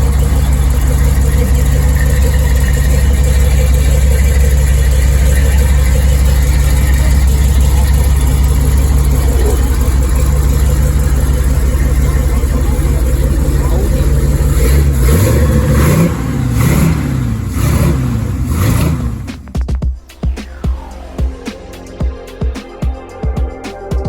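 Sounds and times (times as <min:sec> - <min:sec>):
vehicle engine idling: 0:00.0 - 0:19.4.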